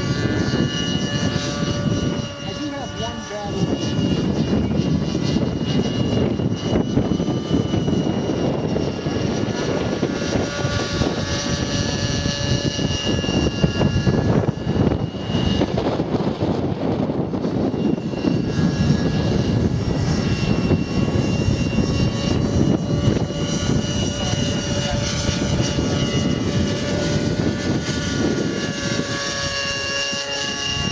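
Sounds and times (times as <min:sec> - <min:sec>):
model helicopter engine whine: 0:00.0 - 0:30.9.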